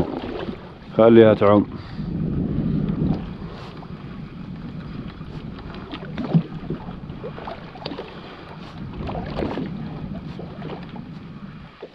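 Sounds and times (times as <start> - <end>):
water sloshing against boat hull: 0.0 - 11.9
wind on microphone: 0.0 - 11.9.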